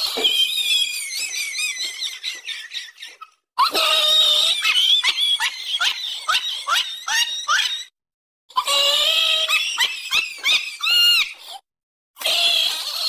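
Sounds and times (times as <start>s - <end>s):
high-pitched squealing cries: 0.0s - 7.9s, 8.5s - 11.6s, 12.2s - 13.0s.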